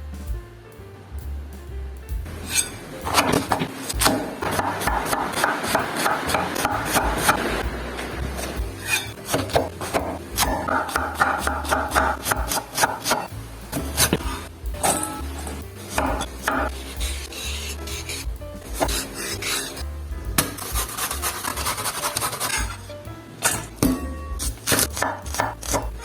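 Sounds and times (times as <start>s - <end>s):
background music: 0.0s - 26.0s
knife knocking and scraping vegetables: 2.3s - 7.6s, 8.4s - 19.8s, 20.4s - 26.0s.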